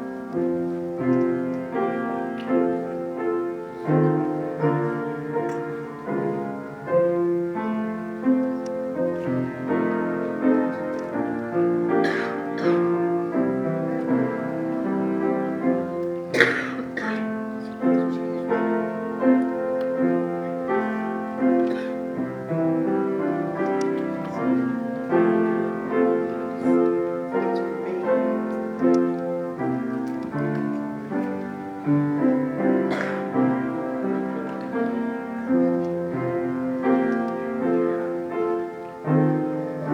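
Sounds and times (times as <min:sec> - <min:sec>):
slow piano piece: 0:00.0 - 0:39.9.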